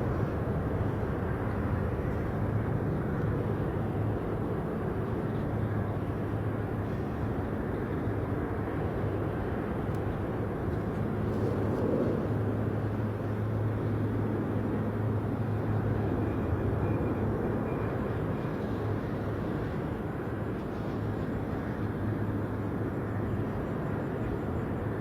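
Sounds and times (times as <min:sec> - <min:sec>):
aircraft engines rumbling: 0:00.0 - 0:25.0.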